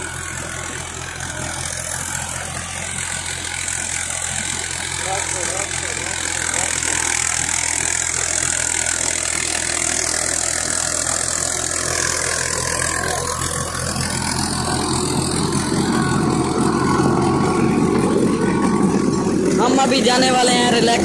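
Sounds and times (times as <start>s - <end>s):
tiller churning soil: 0.0s - 21.0s
tractor diesel engine under load: 0.0s - 21.0s.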